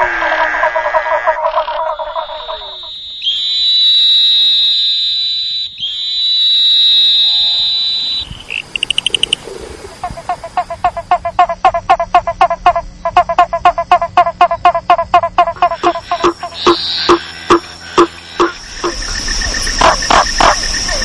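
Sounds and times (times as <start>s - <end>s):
frog high-pitched trills: 0.0s - 9.4s, 10.0s - 21.0s
frog pulsed call: 0.0s - 21.0s.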